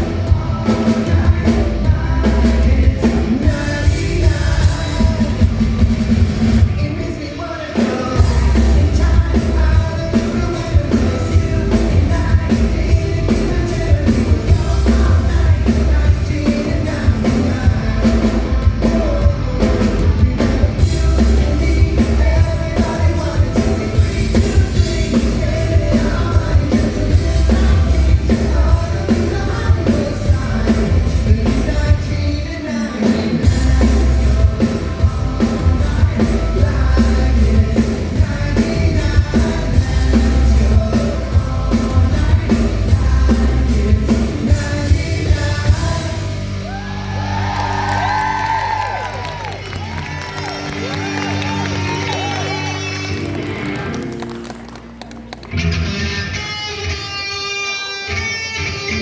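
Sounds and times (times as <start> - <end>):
person singing: 0.0 - 6.0, 6.6 - 54.3
live pop-rock band playing: 0.0 - 59.0.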